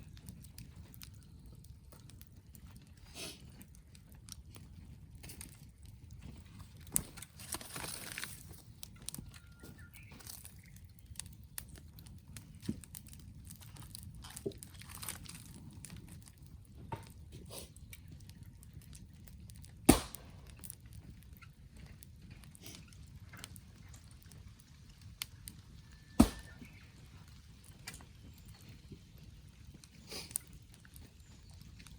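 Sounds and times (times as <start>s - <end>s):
campfire crackling: 0.0s - 31.9s
fire popping: 0.0s - 31.9s.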